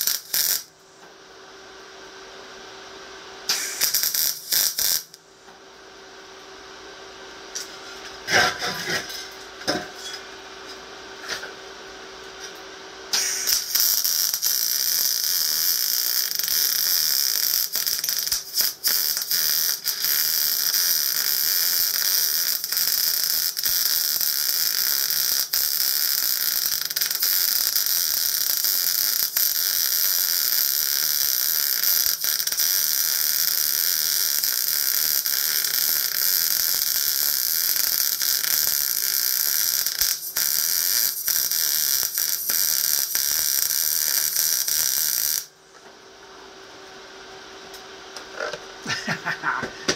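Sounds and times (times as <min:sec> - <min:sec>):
welding arc crackling hiss: 0:00.0 - 0:00.9, 0:03.4 - 0:05.2, 0:07.5 - 0:45.6, 0:47.7 - 0:49.9.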